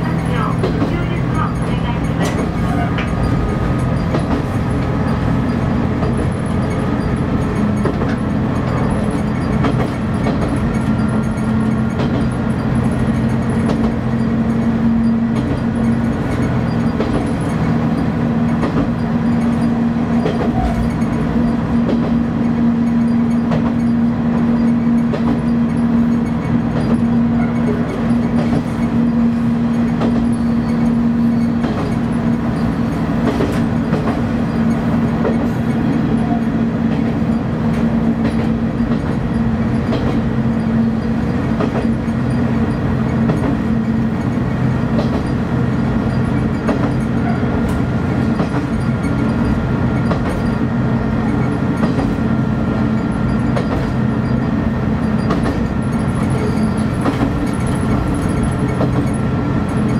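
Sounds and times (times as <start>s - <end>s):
diesel engine running: 0.0s - 59.9s
train wheel noise: 0.0s - 59.9s
faint clicks from rails: 0.4s - 4.9s, 5.5s - 17.7s, 18.4s - 45.4s, 46.1s - 50.6s, 51.2s - 52.3s, 52.9s - 59.9s.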